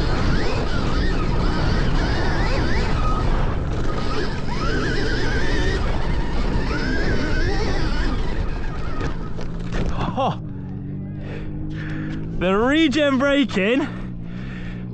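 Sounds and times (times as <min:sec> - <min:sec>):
electric motorbike motor whine: 0:00.0 - 0:14.9
wind rush and riding noise: 0:00.0 - 0:14.9.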